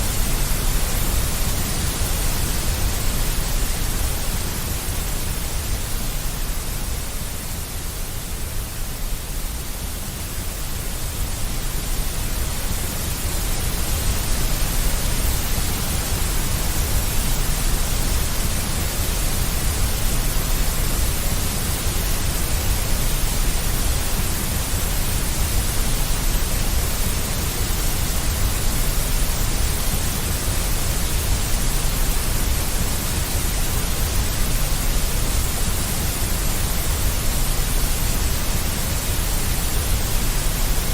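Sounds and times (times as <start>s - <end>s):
deep white noise hiss: 0.0s - 40.9s.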